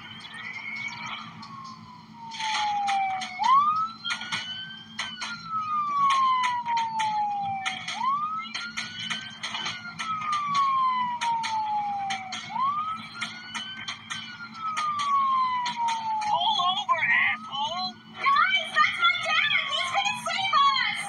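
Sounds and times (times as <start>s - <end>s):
police siren wailing: 0.0s - 21.0s.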